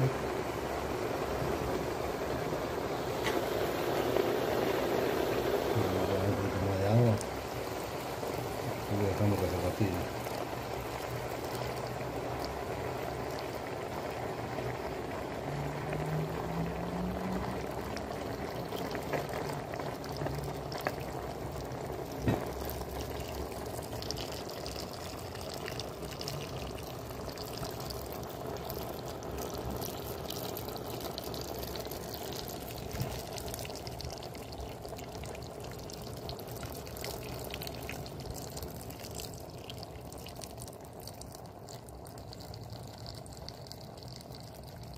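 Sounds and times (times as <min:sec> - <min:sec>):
stew bubbling in a pot: 0:00.0 - 0:44.9.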